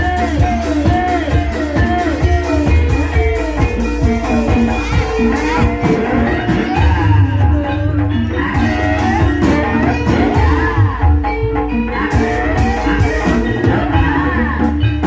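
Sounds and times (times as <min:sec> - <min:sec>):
drum strokes: 0:00.0 - 0:15.0
gliding melody line: 0:00.0 - 0:15.0
ringing pitched tones: 0:00.0 - 0:15.0.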